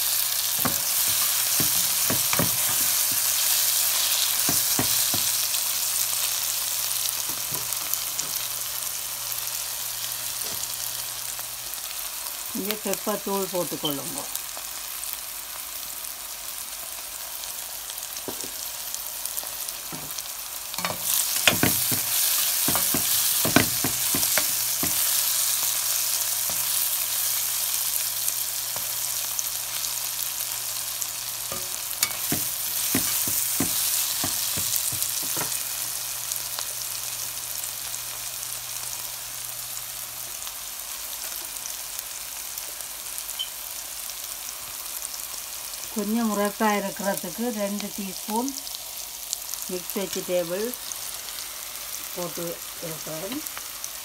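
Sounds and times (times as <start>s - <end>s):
vegetables sizzling in hot oil: 0.0s - 54.0s.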